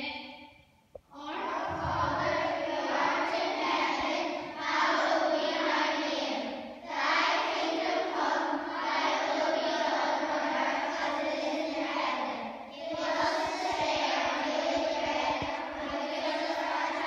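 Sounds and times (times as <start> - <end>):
children singing in unison: 1.2 - 17.0.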